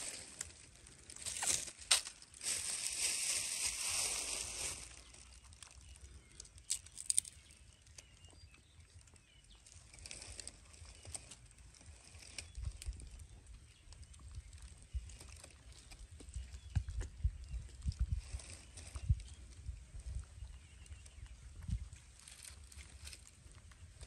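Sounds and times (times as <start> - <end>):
crinkling rustle: 0.0 - 16.7, 17.3 - 24.0
quiet outdoor background: 0.0 - 24.0.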